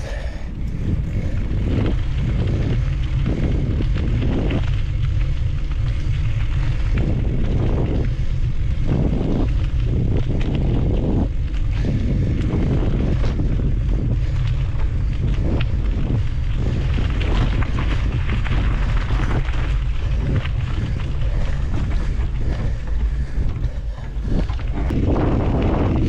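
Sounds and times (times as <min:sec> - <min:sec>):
tyres crackling over leaves and gravel: 0:00.0 - 0:26.0
wind rumbling on microphone: 0:00.0 - 0:26.0.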